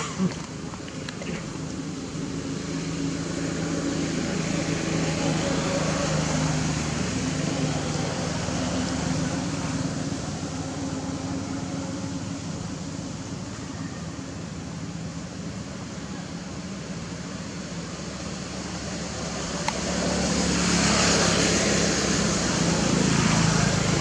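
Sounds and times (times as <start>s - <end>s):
vehicle engine hum: 0.0s - 24.0s.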